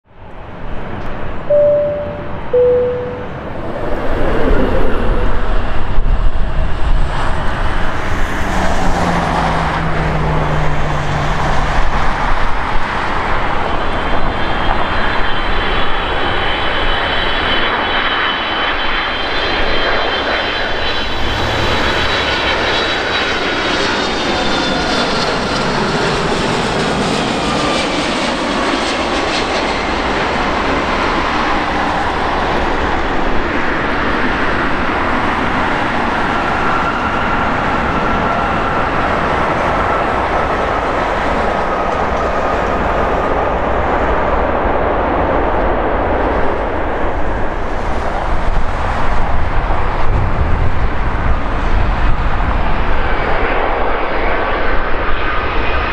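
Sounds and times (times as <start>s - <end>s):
jet airliner rumble: 0.1s - 55.9s.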